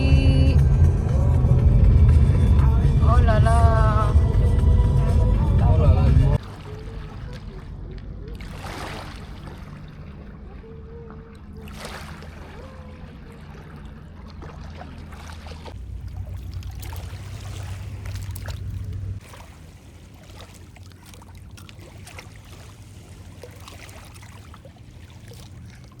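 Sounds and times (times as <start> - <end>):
low motor hum: 0.0 - 26.0
water splashing and lapping: 0.0 - 26.0.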